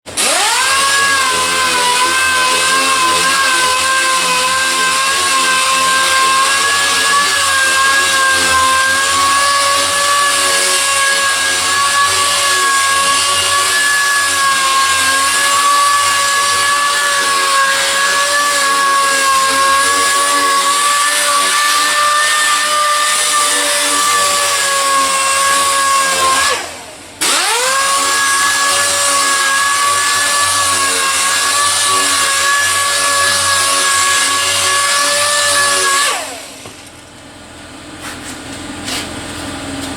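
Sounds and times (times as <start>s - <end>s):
power sander whining: 0.0s - 37.8s.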